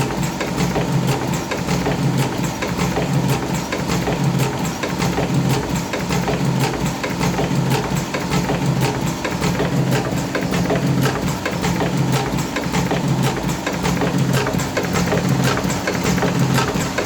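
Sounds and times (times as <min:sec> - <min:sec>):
fast regular clicking: 0:00.0 - 0:17.0.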